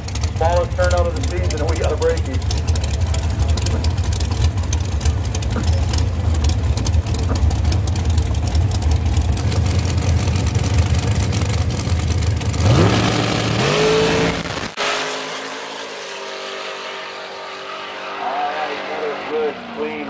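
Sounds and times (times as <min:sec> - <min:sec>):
dragster engine roaring: 0:00.0 - 0:20.0.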